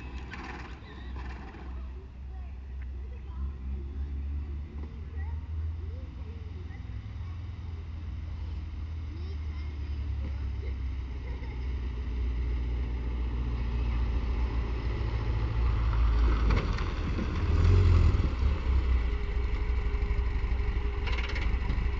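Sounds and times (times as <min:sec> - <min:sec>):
car engine approaching: 0:00.0 - 0:21.9.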